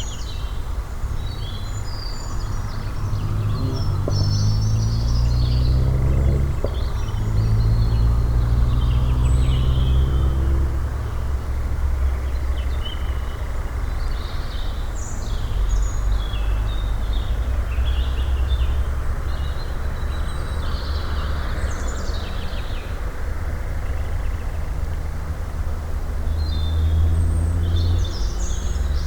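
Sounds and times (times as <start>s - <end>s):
songbird singing: 1.2s - 25.3s, 26.2s - 29.0s.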